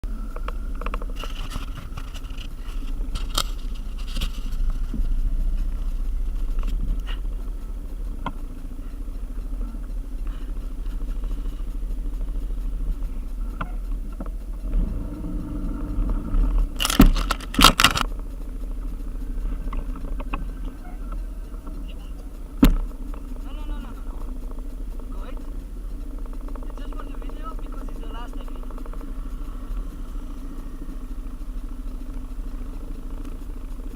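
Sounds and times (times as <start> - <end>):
motorbike engine and road rumble: 0.0 - 33.9
rattles and clicks: 0.0 - 33.9.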